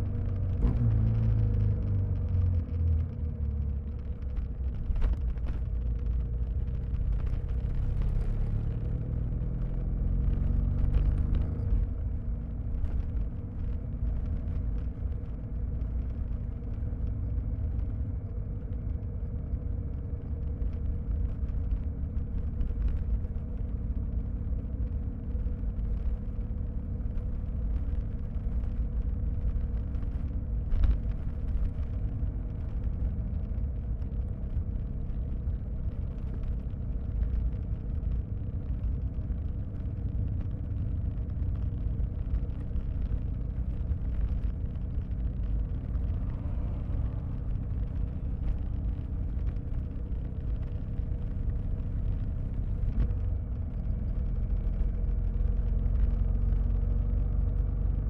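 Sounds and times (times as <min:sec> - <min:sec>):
muffled motorcycle engine: 0:00.0 - 0:58.0
road and wind rumble: 0:00.0 - 0:58.0.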